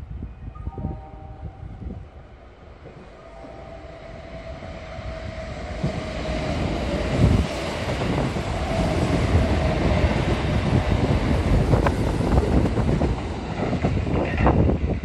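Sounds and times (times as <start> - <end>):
electric train rumble: 0.0 - 15.0
faint train whine: 0.0 - 15.0.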